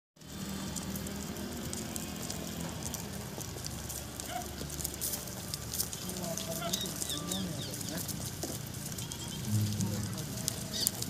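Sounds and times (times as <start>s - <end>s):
hooves pattering on paved road: 0.2s - 11.0s.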